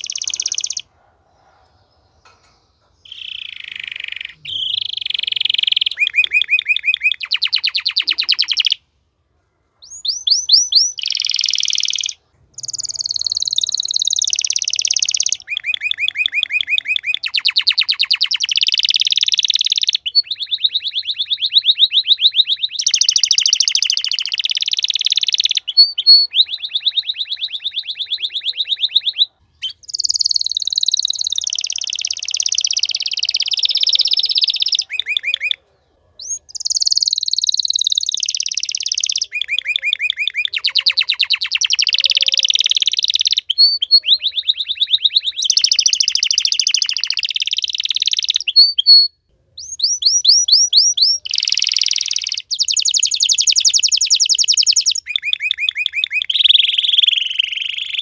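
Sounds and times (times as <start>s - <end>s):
canary singing trills: 0.0s - 9.0s, 9.8s - 58.0s.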